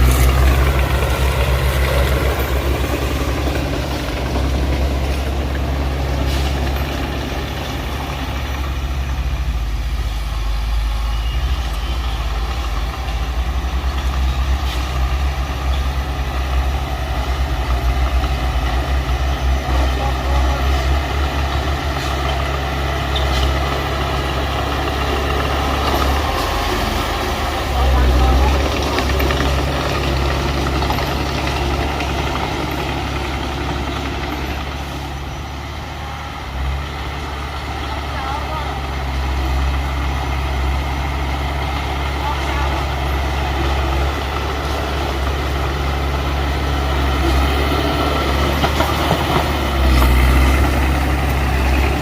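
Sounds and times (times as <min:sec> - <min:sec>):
diesel machinery engine drone: 0:00.0 - 0:52.0.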